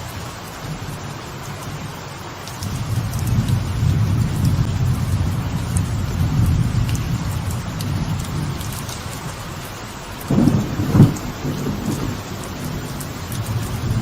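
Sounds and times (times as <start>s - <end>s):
light rain on a veranda: 0.0s - 14.0s
rain drop ticks: 0.0s - 14.0s
rolling thunder: 2.6s - 14.0s.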